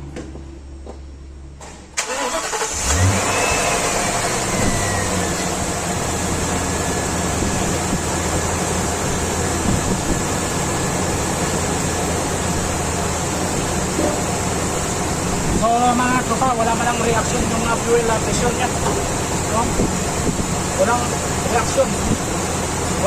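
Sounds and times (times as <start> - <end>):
engine whine: 0.0 - 23.0
engine starting and running: 1.6 - 23.0.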